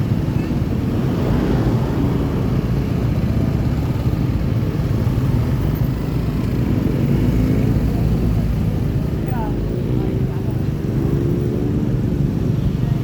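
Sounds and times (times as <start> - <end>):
road noise rush: 0.0 - 13.0.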